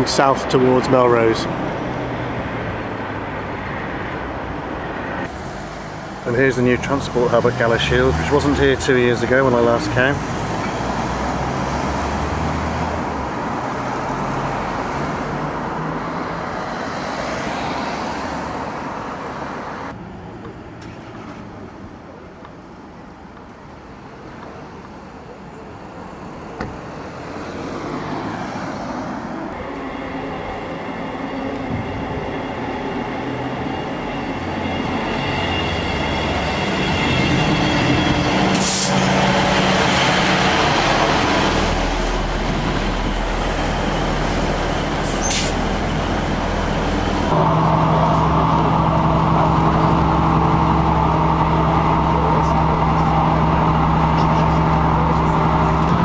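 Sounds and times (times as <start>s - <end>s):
street and traffic noise: 0.0s - 56.0s
train arriving with rising whine: 0.0s - 56.0s.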